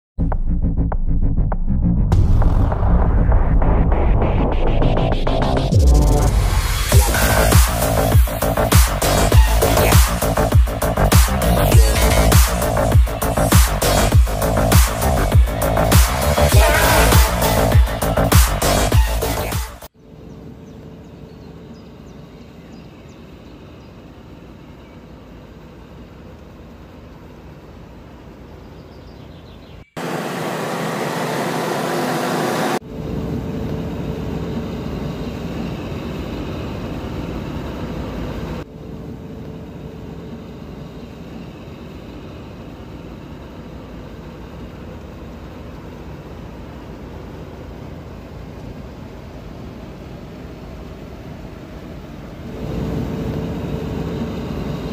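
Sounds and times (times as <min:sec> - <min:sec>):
combine harvester drone: 0:02.1 - 0:54.9.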